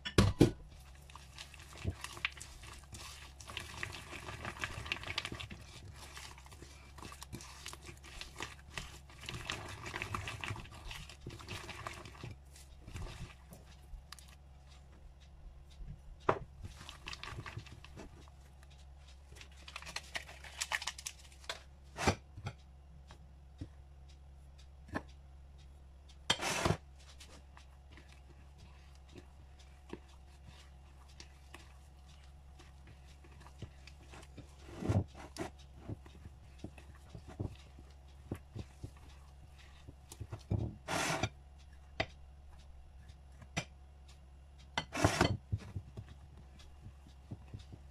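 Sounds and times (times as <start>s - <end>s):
dough squelching: 0.0s - 47.9s
low steady hum: 0.0s - 47.9s.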